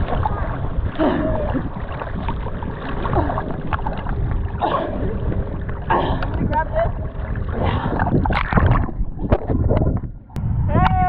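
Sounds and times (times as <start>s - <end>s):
seawater sloshing and splashing: 0.0s - 10.3s
wind buffeting microphone: 0.0s - 11.0s.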